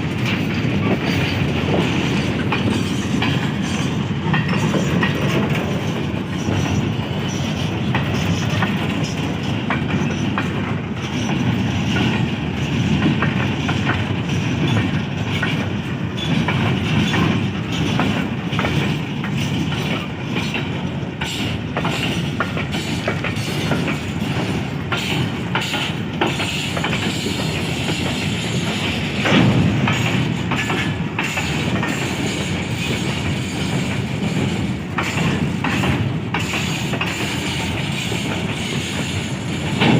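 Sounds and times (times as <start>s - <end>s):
goods train rumbling: 0.0s - 39.9s
wheels clicking over rail joints: 0.0s - 39.9s.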